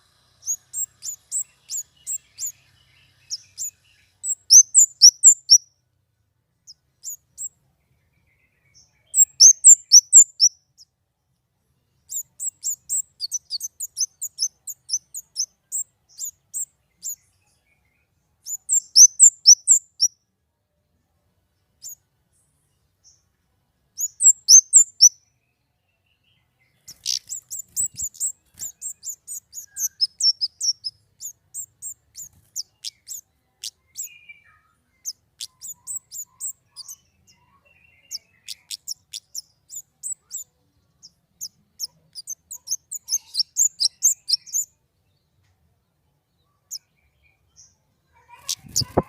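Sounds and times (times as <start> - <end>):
songbird chirps and trills: 0.0 - 49.0.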